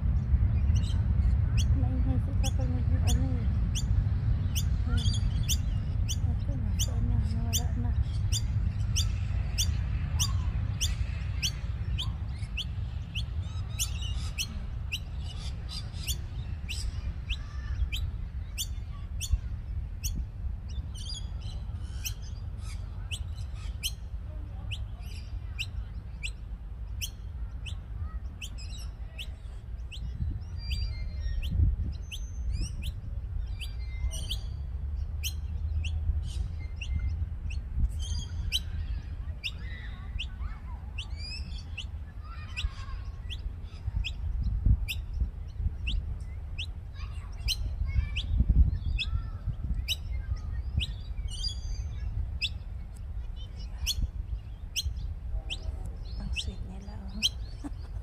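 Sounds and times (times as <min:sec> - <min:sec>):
low rumble: 0:00.0 - 0:58.0
small birds chirping: 0:00.0 - 0:58.0.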